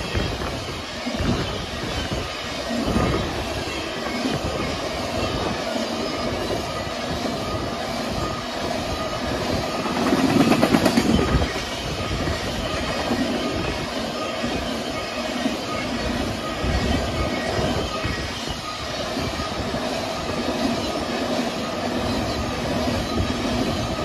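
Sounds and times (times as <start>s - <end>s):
freight train wheels clattering: 0.0s - 24.0s.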